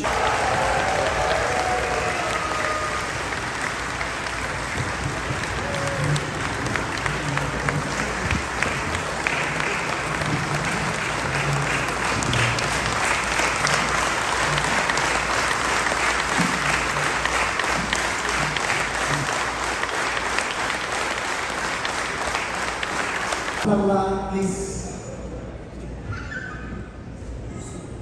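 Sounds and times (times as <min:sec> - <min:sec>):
audience applauding: 0:00.0 - 0:23.7.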